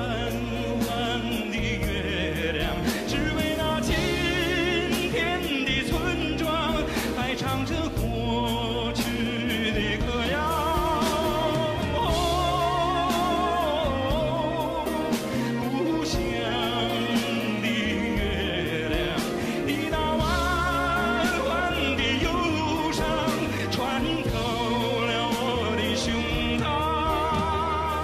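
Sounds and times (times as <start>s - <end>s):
person singing with vibrato: 0.0s - 28.0s
sustained bass notes: 0.0s - 28.0s.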